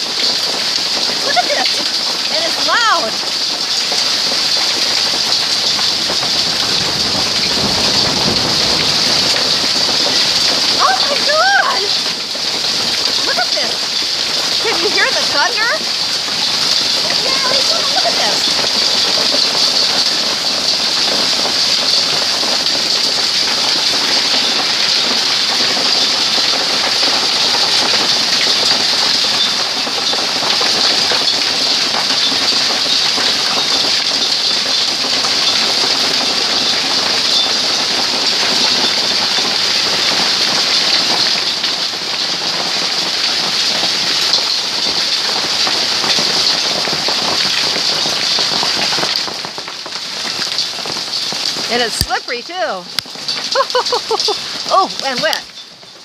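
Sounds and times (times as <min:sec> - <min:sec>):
hail clattering: 0:00.0 - 0:56.0
rain: 0:00.0 - 0:56.0.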